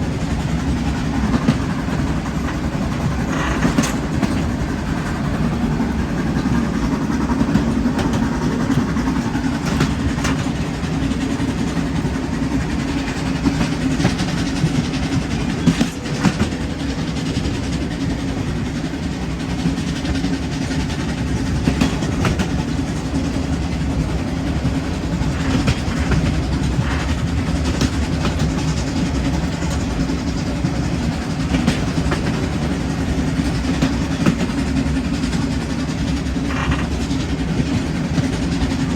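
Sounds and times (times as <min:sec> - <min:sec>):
steam train rumbling: 0:00.0 - 0:38.9
wheels clicking on rails: 0:00.0 - 0:38.9.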